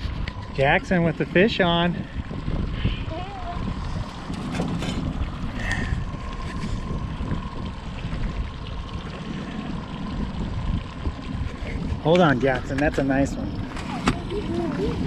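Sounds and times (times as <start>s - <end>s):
boat motor running: 0.0s - 15.0s
faint steady whine: 0.0s - 15.0s
wind buffeting microphone: 0.0s - 15.0s.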